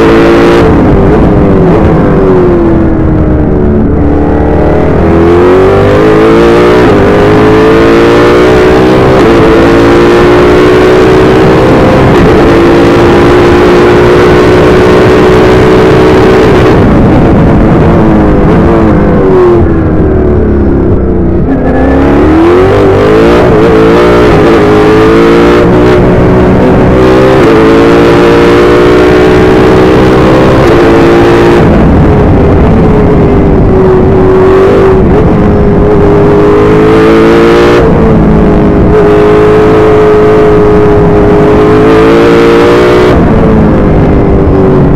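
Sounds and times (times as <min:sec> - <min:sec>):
racing car engine revving: 0:00.0 - 0:44.9.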